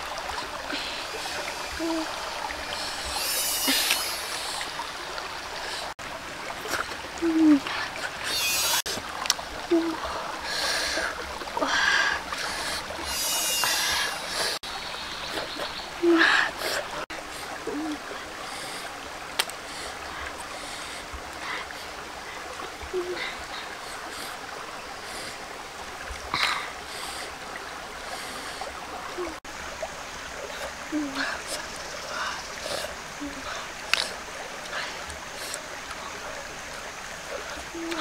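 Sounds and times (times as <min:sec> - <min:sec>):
stream water flowing: 0:00.0 - 0:38.0.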